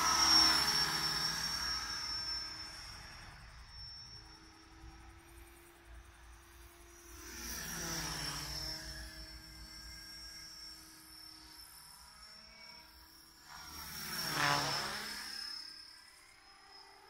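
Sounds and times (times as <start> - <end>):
model helicopter whine: 0.0 - 17.0.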